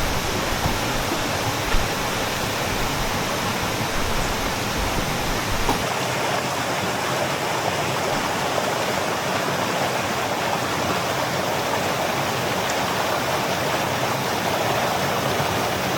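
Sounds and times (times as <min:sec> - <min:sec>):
stream rushing over rocks: 0:00.0 - 0:15.9.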